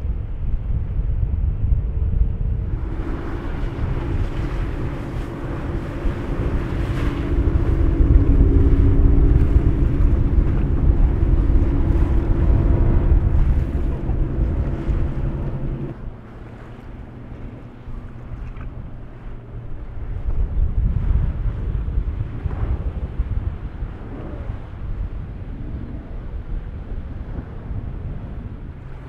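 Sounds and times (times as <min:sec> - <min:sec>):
wind buffeting microphone: 0:00.0 - 0:29.0
powerboat engines droning: 0:02.4 - 0:29.0.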